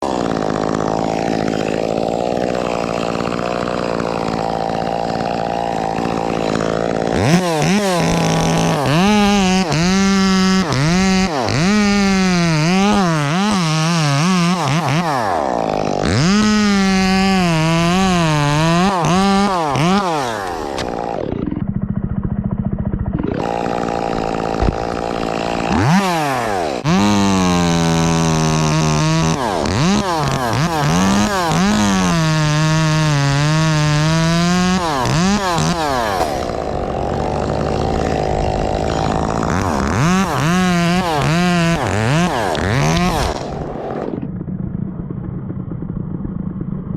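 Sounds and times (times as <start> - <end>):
chainsaw running at high revs: 0.0 - 46.9.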